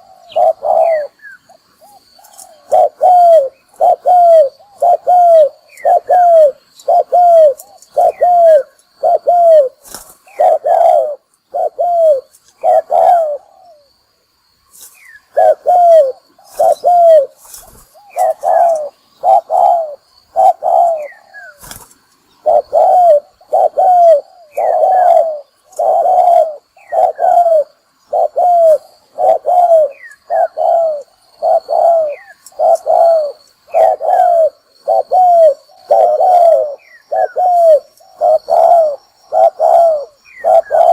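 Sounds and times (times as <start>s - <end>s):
dove cooing: 0.0s - 14.0s, 15.2s - 40.9s.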